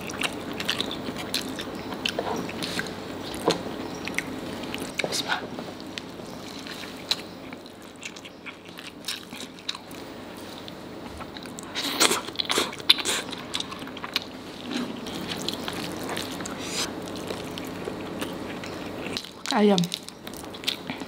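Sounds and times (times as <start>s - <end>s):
wet chewing and biting: 0.0s - 5.2s, 5.8s - 10.0s, 10.6s - 21.0s.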